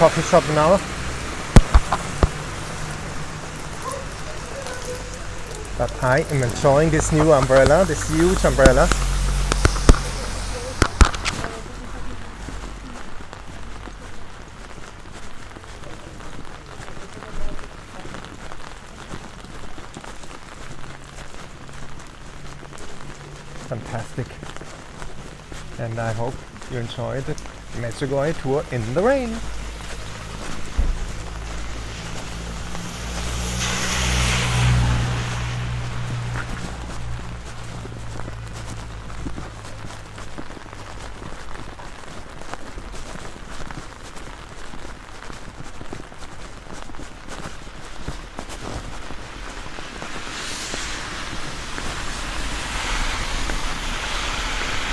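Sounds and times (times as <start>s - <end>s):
heavy rain on umbrella: 0.0s - 54.9s.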